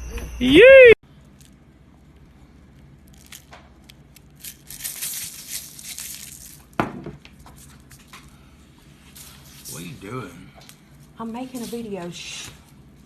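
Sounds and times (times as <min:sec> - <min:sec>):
rustling crinkling: 0:01.2 - 0:10.0, 0:10.7 - 0:13.0.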